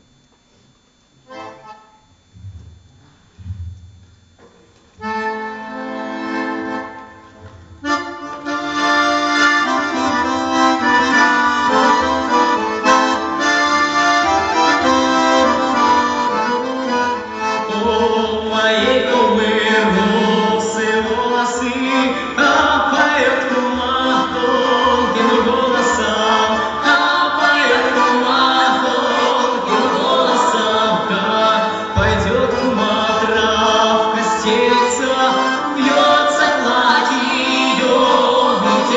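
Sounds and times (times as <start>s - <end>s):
accordion playing folk melody: 1.3s - 2.0s, 5.0s - 38.9s.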